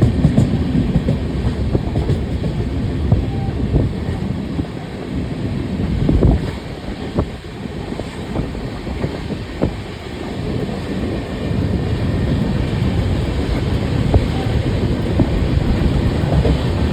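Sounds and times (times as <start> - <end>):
wheels clicking over rail joints: 0.0 - 3.3, 6.1 - 16.9
train rumbling on rails: 0.0 - 16.9.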